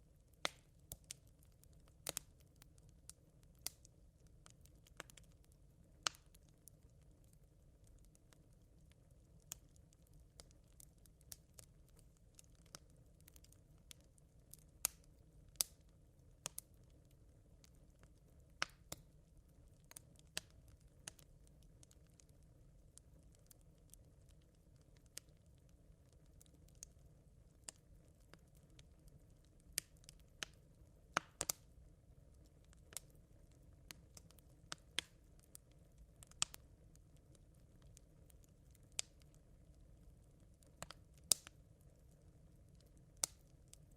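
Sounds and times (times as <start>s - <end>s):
campfire embers crackling: 0.0s - 43.9s.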